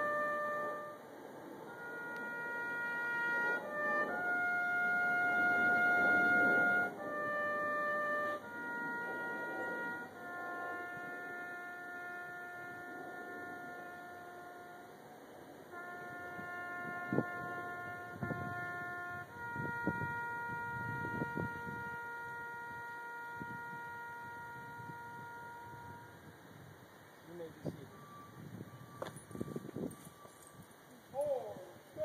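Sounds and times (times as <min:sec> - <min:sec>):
brass band playing held notes: 0:00.0 - 0:26.4, 0:27.4 - 0:30.3.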